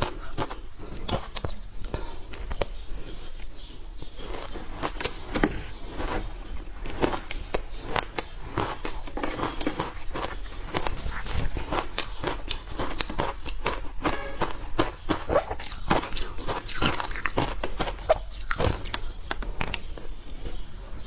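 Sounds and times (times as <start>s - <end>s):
ice crunching between teeth: 0.0s - 2.8s, 4.1s - 20.6s.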